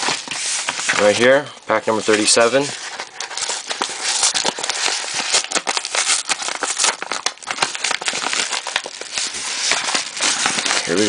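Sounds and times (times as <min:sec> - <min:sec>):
paper envelope crinkling: 0:00.0 - 0:11.0.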